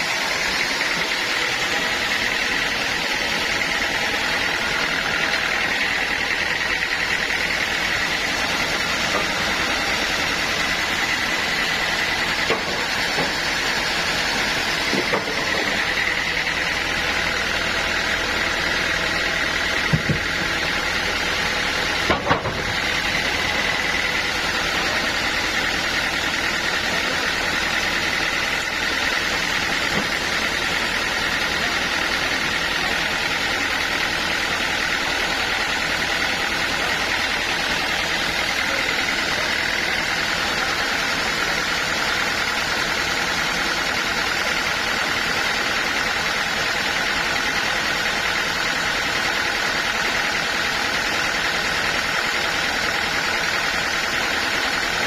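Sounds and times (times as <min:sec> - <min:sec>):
sawmill machinery whine: 0:00.0 - 0:55.0.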